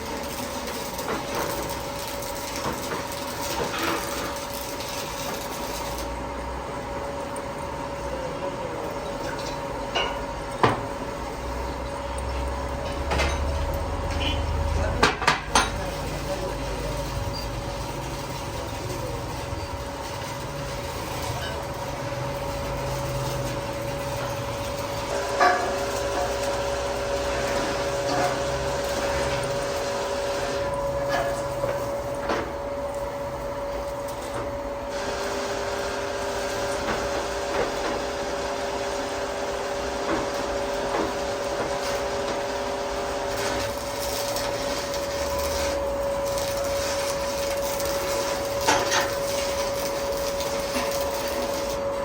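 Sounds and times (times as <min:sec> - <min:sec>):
boring machine humming: 0:00.0 - 0:52.0.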